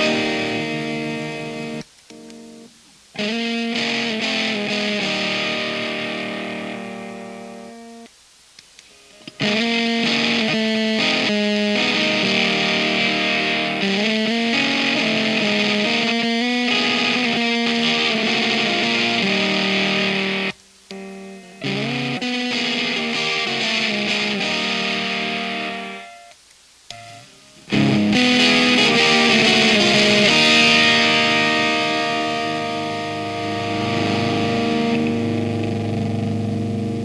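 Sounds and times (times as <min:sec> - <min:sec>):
fuzzed electric guitar chords: 0:00.0 - 0:01.8, 0:03.2 - 0:08.0, 0:09.4 - 0:26.2, 0:26.9 - 0:37.0.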